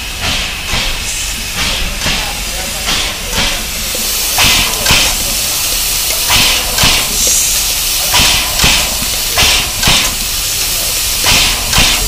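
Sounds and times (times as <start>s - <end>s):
steady hiss of escaping steam: 0.0s - 12.0s
steam locomotive chuffing: 0.0s - 12.0s.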